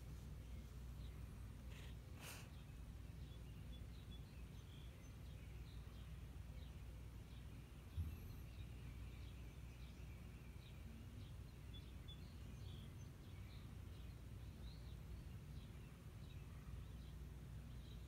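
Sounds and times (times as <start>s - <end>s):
distant birds chirping: 0.0s - 18.0s.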